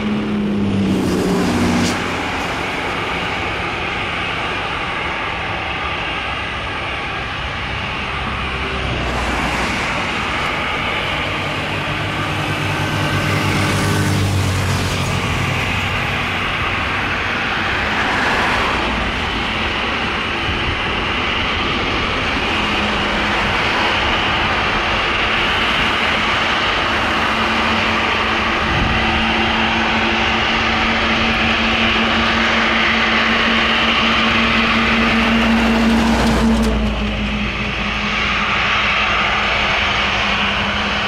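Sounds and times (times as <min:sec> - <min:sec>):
jet engines rushing and whining: 0:00.0 - 0:41.0.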